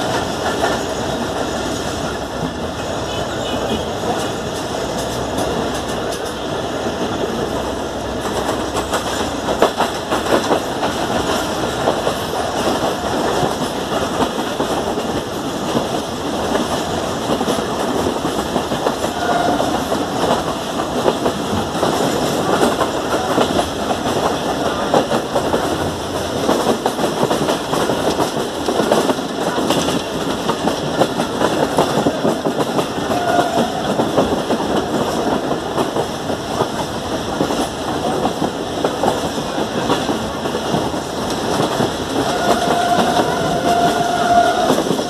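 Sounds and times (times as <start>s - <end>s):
train wheels clattering over rails: 0.0s - 45.0s.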